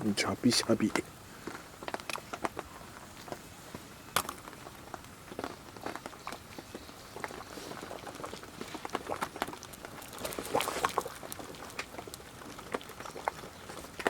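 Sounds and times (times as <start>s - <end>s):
curry bubbling and popping: 0.0s - 14.0s.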